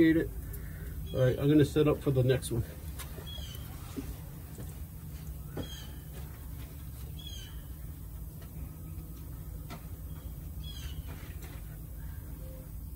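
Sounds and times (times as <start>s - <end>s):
steady low rumble: 0.0s - 12.9s.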